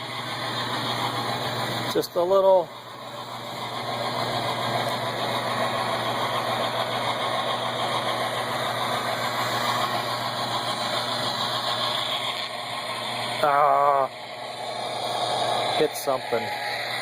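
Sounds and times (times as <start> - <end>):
chugging engine sound from speaker: 0.0 - 17.0
drive motor hum: 0.0 - 17.0.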